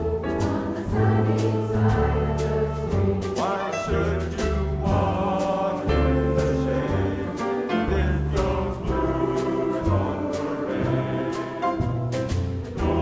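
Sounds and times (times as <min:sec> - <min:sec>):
mixed choir singing swing jazz: 0:00.0 - 0:13.0
piano: 0:00.0 - 0:13.0
upright double bass: 0:00.0 - 0:13.0.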